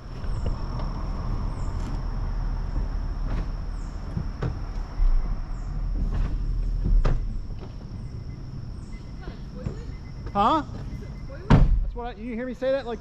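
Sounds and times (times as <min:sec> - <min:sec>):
vehicle engine running low: 0:00.0 - 0:11.3.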